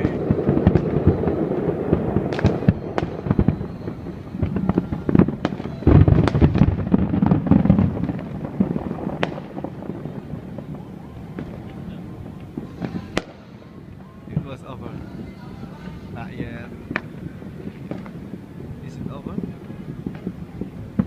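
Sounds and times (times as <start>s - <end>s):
deep fireworks booms: 0.0s - 21.0s
fireworks cracks and pops: 0.0s - 21.0s.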